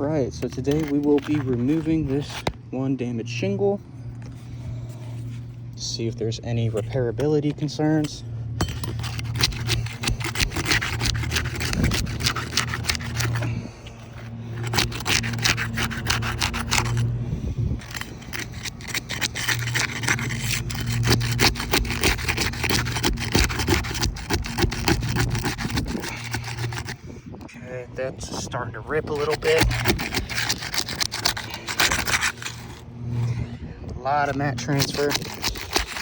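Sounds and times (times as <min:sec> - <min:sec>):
shingle scraping and crackling: 0:00.0 - 0:36.0
steady low hum: 0:00.0 - 0:36.0.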